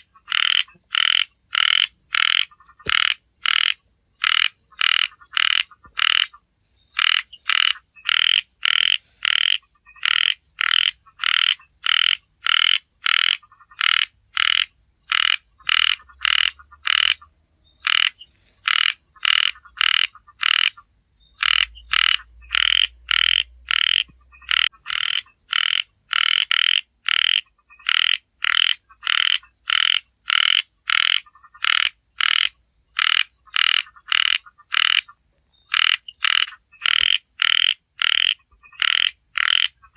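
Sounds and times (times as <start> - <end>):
small frogs croaking: 0.0 - 39.9.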